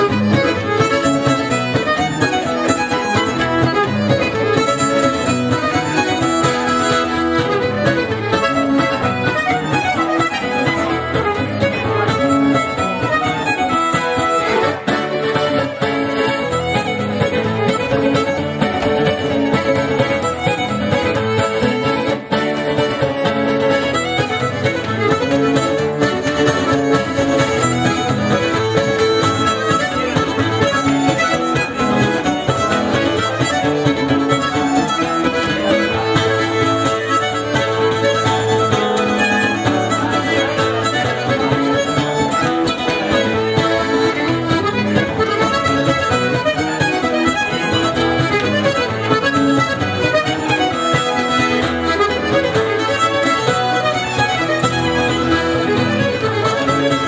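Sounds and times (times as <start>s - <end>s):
accordion: 0.0s - 57.0s
fiddle: 0.0s - 57.0s
strummed cittern: 0.0s - 57.0s.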